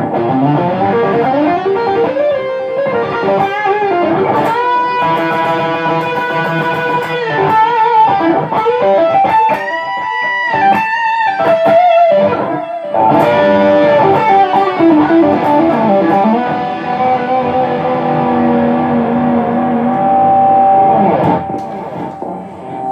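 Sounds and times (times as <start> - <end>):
overdriven electric guitar lead: 0.0 - 22.9.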